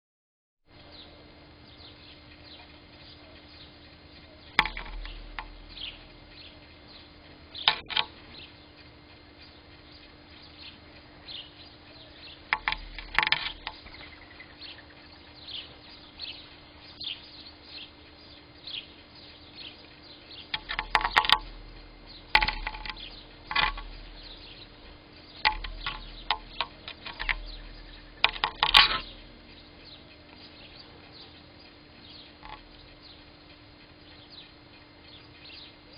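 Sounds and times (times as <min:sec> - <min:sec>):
faint steady hum: 0:00.7 - 0:35.9
small birds chirping: 0:00.7 - 0:35.9.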